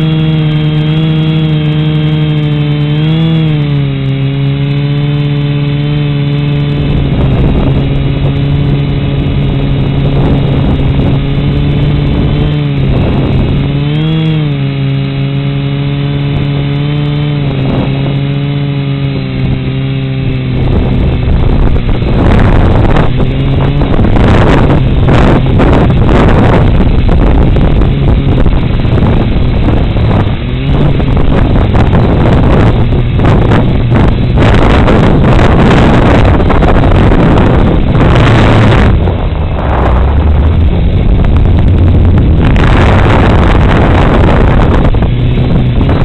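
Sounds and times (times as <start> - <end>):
drone motors humming: 0.0 - 46.0
wind buffeting microphone: 0.0 - 46.0.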